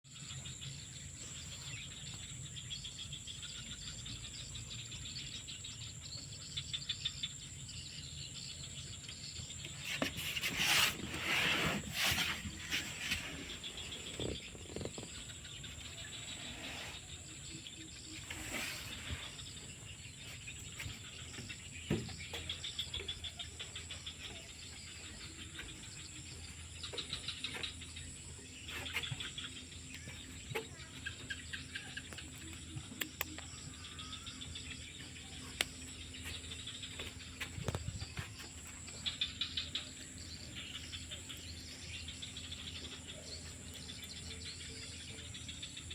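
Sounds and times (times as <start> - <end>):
crickets chirping: 0.1 - 45.9.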